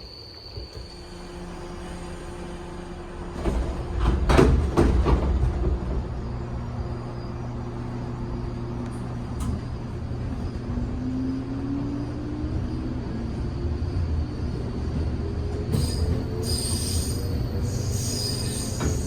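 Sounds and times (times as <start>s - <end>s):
train running hum: 0.0s - 19.0s.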